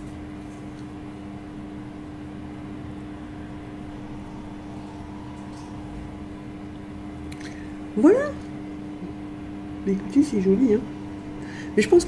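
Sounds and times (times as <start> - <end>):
steady low electrical hum: 0.0 - 12.0.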